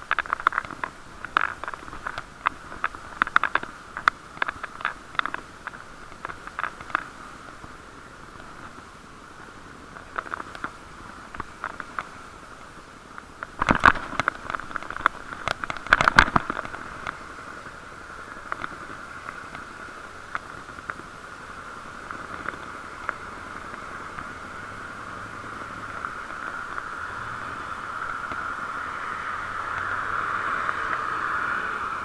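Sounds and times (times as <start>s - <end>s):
muffled riding hiss: 0.0s - 32.0s.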